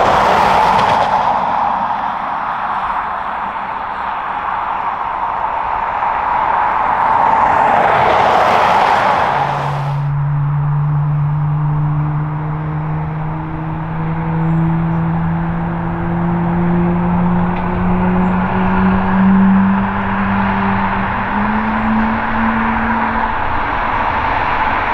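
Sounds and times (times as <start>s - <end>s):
low engine hum rising in pitch: 0.0s - 24.9s.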